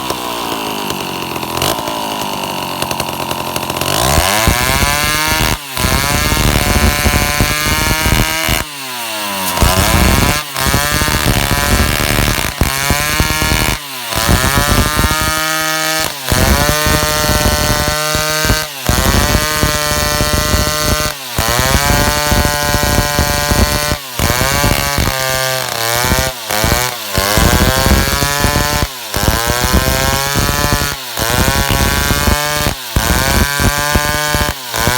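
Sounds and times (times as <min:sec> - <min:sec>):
chainsaw revving and cutting wood: 0:00.0 - 0:34.9.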